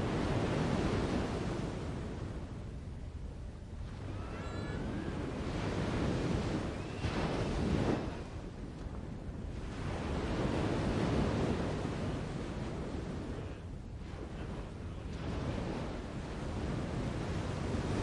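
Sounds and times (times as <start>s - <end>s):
wind through foliage: 0.0s - 18.0s.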